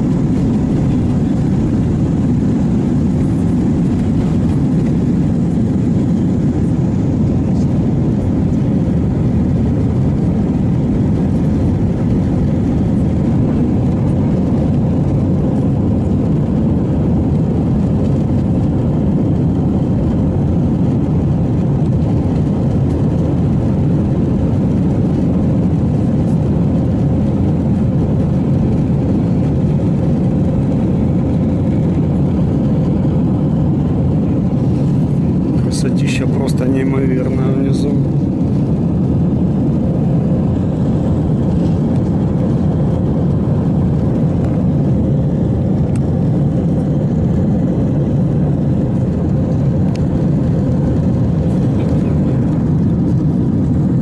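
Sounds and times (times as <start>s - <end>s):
jet engine rumble and rushing air: 0.0s - 54.0s.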